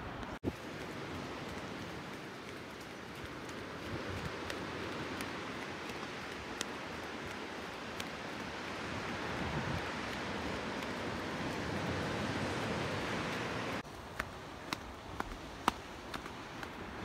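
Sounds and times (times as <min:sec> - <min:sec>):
steady rushing outdoor noise: 0:00.0 - 0:17.0
light footsteps on a track: 0:00.2 - 0:17.0.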